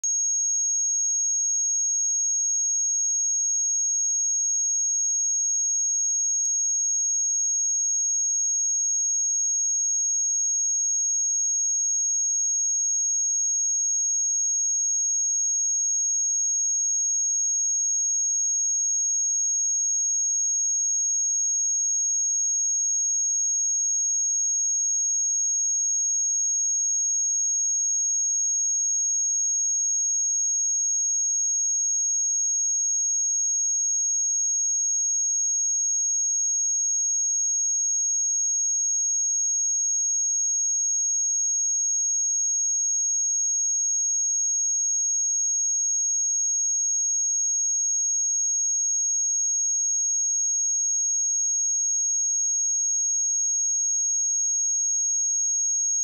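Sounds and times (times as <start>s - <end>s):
high-pitched sine test tone: 0.0s - 56.0s.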